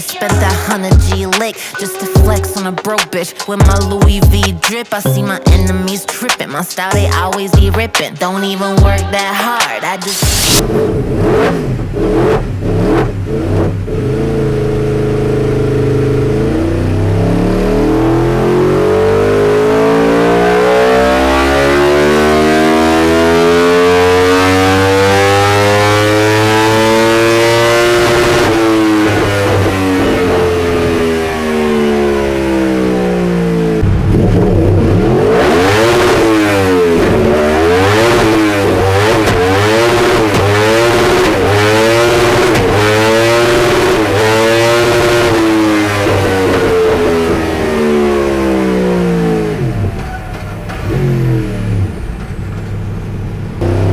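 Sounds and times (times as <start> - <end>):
motorbike engine revving: 8.8 - 53.9.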